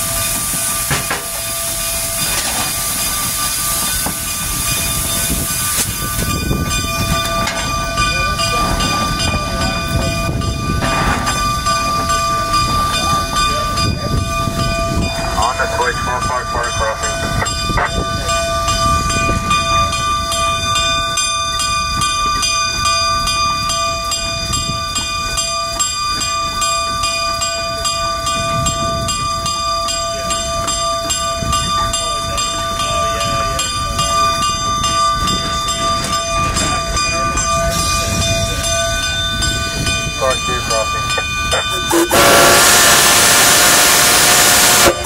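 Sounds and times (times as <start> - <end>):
steam locomotive rumble and hiss: 0.0 - 45.0.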